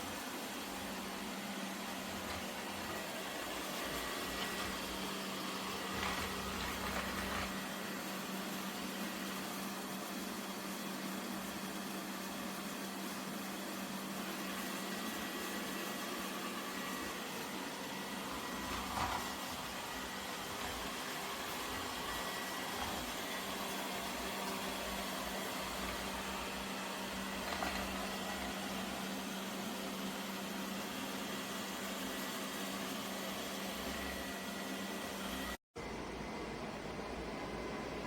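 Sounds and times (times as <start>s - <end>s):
robot vacuum running: 0.0s - 35.6s.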